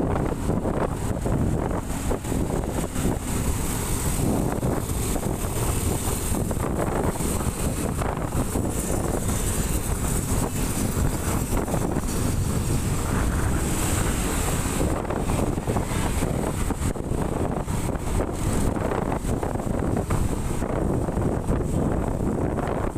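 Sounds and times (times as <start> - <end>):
low engine noise: 0.0 - 22.9
traffic road noise: 0.0 - 22.9
wind rushing over microphone: 0.0 - 22.9.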